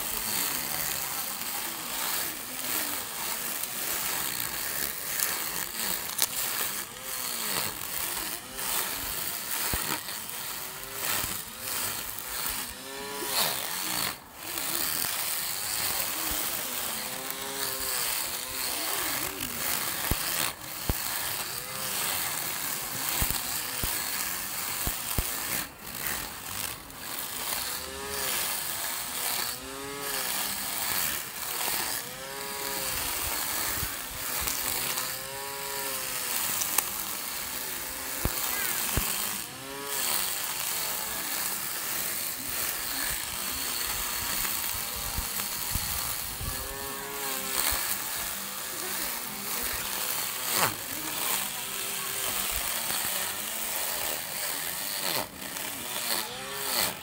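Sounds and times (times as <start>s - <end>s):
electric grass trimmer whirring: 0.0s - 57.0s.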